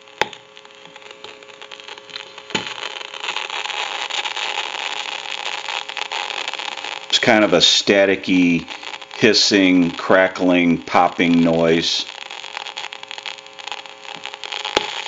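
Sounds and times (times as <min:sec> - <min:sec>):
telephone transmitter static crackling: 0:00.0 - 0:15.0.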